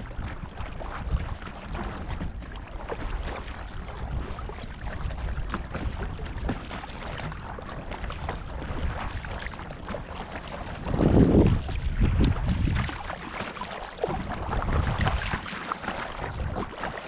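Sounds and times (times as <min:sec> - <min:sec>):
paddle splashing water: 0:00.0 - 0:17.0
wind rumbling on microphone: 0:00.0 - 0:17.0.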